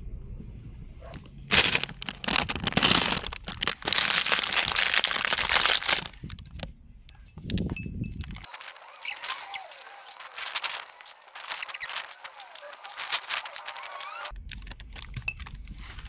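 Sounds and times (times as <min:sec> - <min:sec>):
plastic wrapper crinkling: 0:01.5 - 0:06.7, 0:08.2 - 0:16.0.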